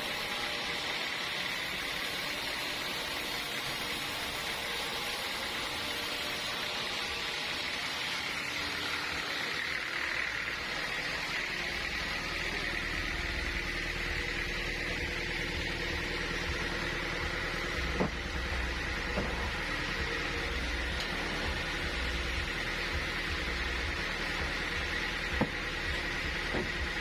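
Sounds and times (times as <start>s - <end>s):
sawmill machinery whining: 0.0s - 27.0s.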